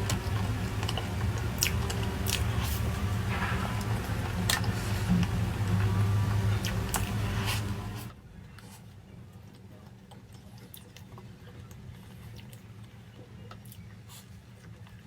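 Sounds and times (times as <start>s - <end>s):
animal eating: 0.0s - 15.0s
low steady hum: 0.0s - 15.0s.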